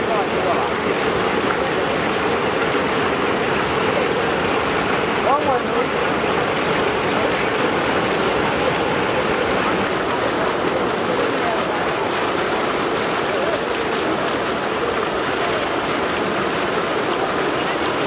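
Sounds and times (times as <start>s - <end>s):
faint voices: 0.0s - 18.0s
floodwater rushing: 0.0s - 18.0s.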